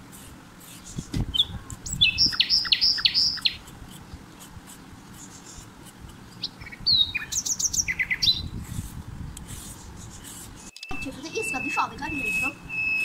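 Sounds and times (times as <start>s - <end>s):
low steady background noise: 0.0s - 13.0s
small bird chirping: 0.7s - 8.8s, 9.4s - 13.0s.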